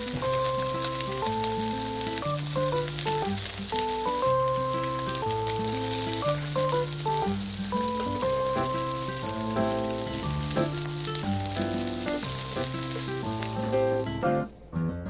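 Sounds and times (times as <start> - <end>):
shrimp sizzling in oil: 0.0 - 14.4
background music melody: 0.0 - 15.0.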